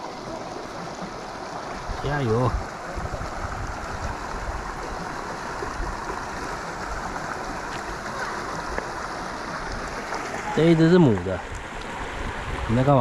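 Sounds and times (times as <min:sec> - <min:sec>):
rocky stream flowing: 0:00.0 - 0:13.0.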